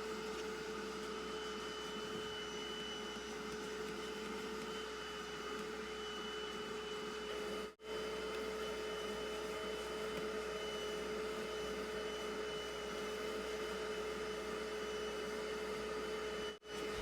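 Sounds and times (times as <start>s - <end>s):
carpet extractor motor whine: 0.0s - 17.0s.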